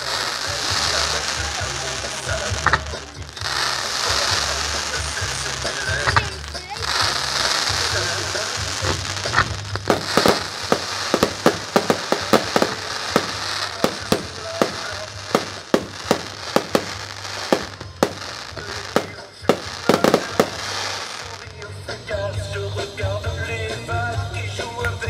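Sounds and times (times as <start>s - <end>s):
steady hiss: 0.0s - 22.0s
fireworks bangs: 0.0s - 22.3s.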